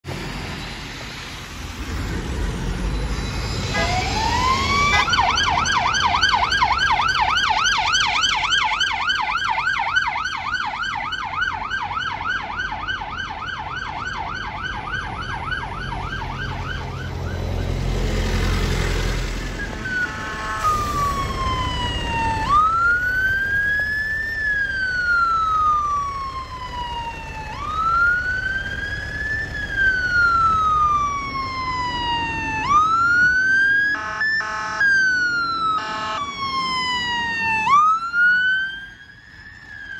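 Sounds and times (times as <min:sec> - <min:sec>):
city traffic: 0:00.0 - 0:39.9
vehicle rumble: 0:00.0 - 0:39.9
siren wailing: 0:02.8 - 0:18.1, 0:19.3 - 0:39.9
siren yelp: 0:03.0 - 0:17.9, 0:19.4 - 0:39.9.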